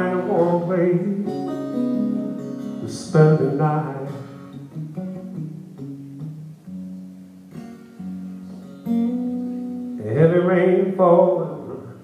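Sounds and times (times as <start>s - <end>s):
solo acoustic guitar: 0.0s - 12.0s.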